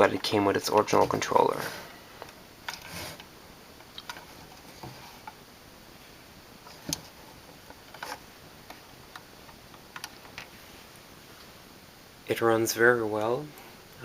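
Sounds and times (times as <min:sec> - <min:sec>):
faint room noise: 0:00.0 - 0:14.0.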